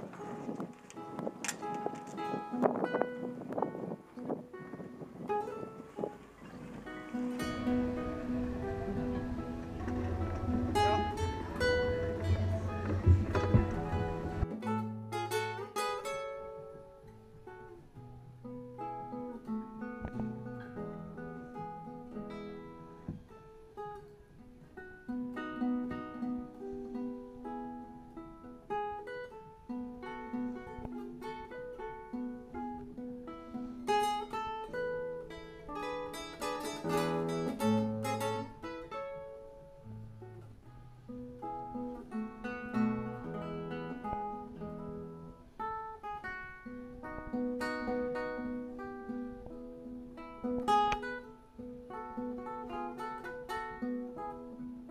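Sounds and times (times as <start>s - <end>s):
solo classical guitar piece: 0.0s - 54.9s.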